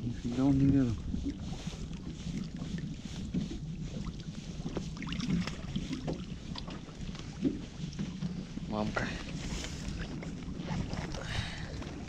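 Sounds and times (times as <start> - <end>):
wind and water rumble: 0.0 - 12.0
small knocks and rustles: 0.3 - 12.0.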